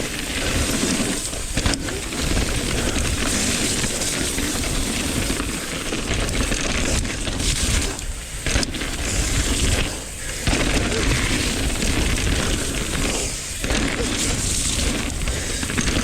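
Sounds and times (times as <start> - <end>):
bike rattling: 0.0 - 16.0
rush of bike tyres: 0.0 - 16.0.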